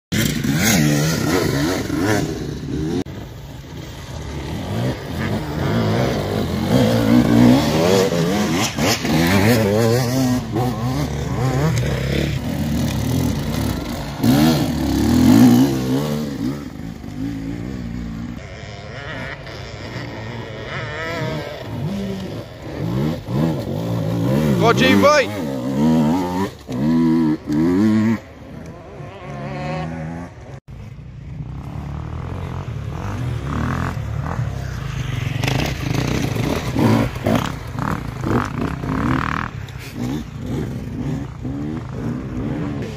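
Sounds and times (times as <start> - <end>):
dirt bike engines revving: 0.1 - 42.9.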